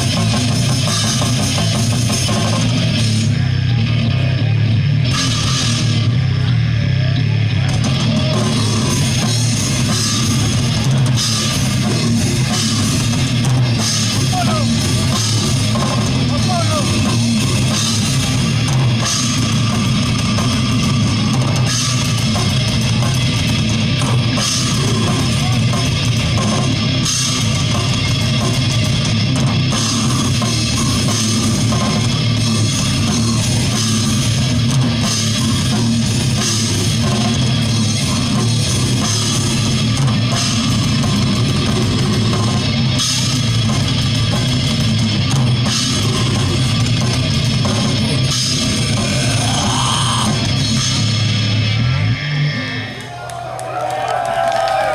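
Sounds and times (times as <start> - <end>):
heavy metal band playing: 0.0 - 54.9.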